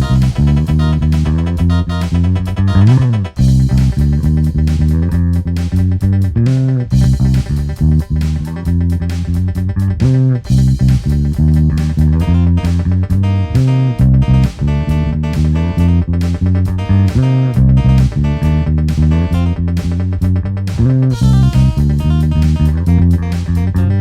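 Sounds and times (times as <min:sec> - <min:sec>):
electric bass plucked notes: 0:00.0 - 0:24.0.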